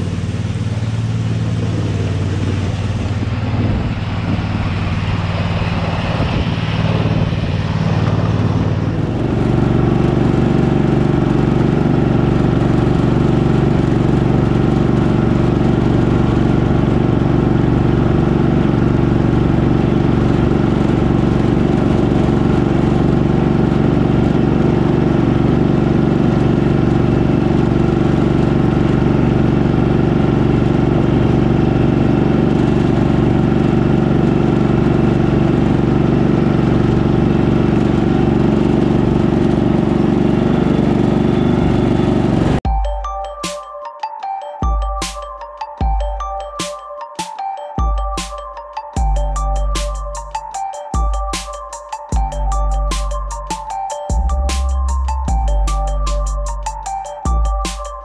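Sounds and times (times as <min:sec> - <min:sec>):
garden tractor engine running: 0:00.0 - 0:43.0, 0:49.0 - 0:58.0.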